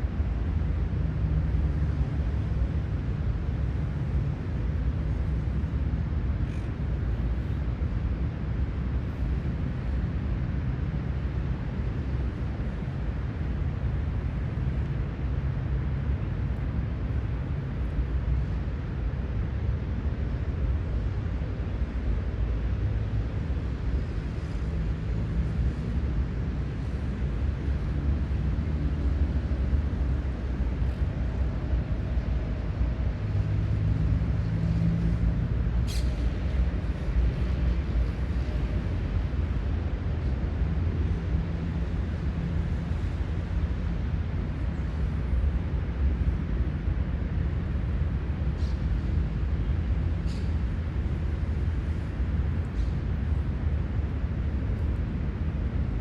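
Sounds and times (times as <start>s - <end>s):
heavy vehicle engine hum: 0.0s - 56.0s
low rumble of road traffic: 0.0s - 56.0s.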